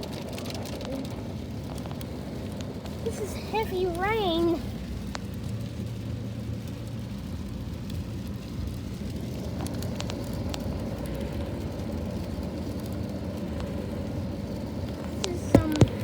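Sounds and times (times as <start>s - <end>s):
heavy rain through window: 0.0s - 16.0s.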